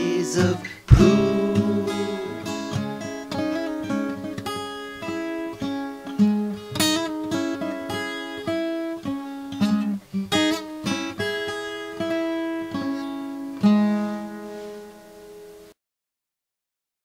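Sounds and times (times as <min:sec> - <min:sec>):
acoustic guitar playing: 0:00.0 - 0:15.8.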